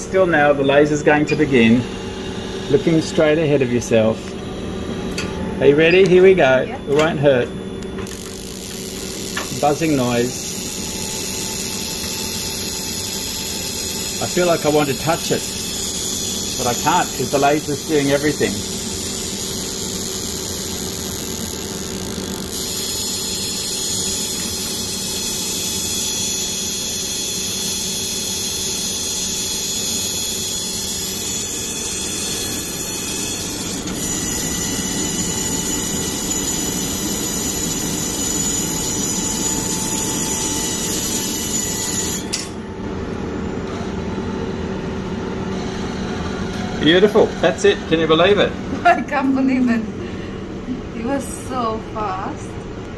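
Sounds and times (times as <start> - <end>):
laser buzzing and whining: 0.0 - 48.5
faint machine hum: 0.0 - 52.9.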